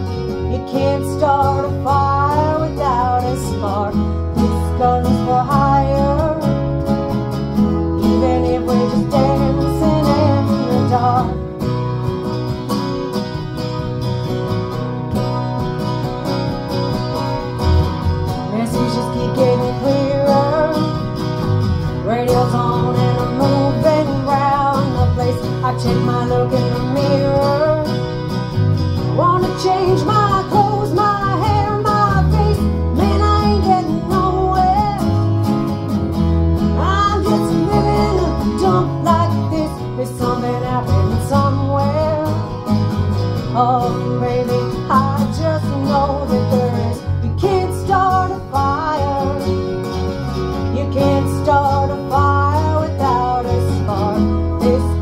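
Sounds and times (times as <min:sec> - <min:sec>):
woman singing: 0:00.0 - 0:07.1, 0:07.8 - 0:11.6, 0:18.3 - 0:28.3, 0:29.0 - 0:35.7, 0:36.7 - 0:42.7, 0:43.4 - 0:49.9, 0:50.6 - 0:55.0
acoustic guitar strumming: 0:00.0 - 0:55.0.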